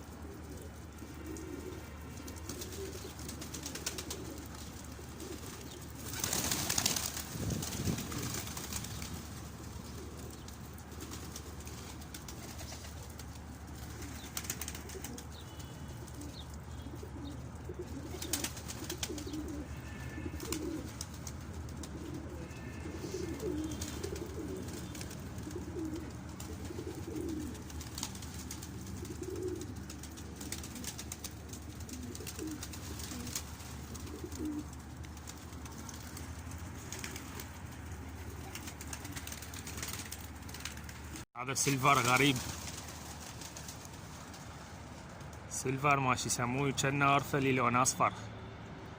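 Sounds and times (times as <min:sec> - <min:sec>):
pigeons cooing: 0:00.0 - 0:44.6.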